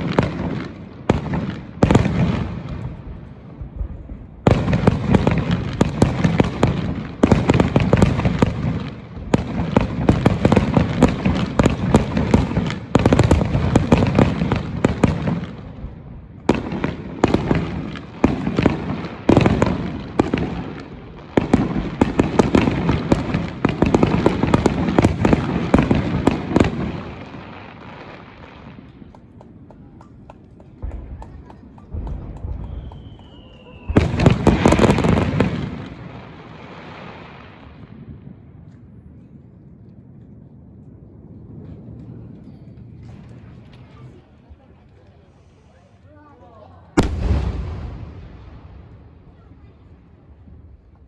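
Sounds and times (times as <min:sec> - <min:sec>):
fireworks booming and crackling: 0:00.0 - 0:46.0, 0:46.9 - 0:51.0.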